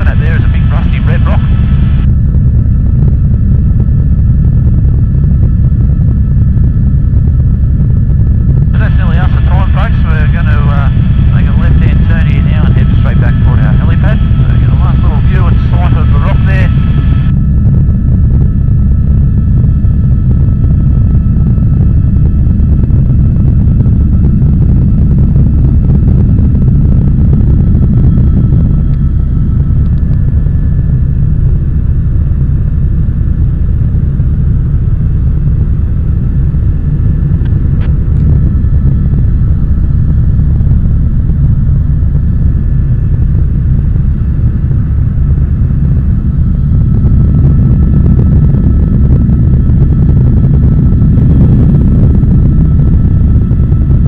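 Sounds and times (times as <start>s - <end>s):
faint steady whine: 0.0s - 54.0s
helicopter rotor and engine rumble: 0.0s - 54.0s.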